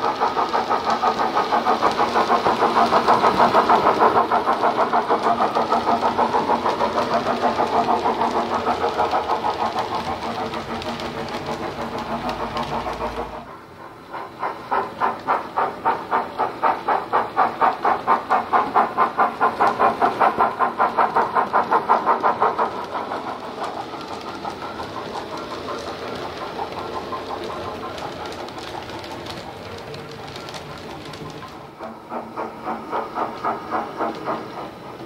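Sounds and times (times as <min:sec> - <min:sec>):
steam locomotive chuffs from speaker: 0:00.0 - 0:35.0.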